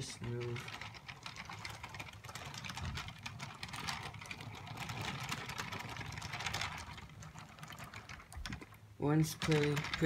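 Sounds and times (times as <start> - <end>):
toy train wheels clattering on track: 0.0 - 10.0.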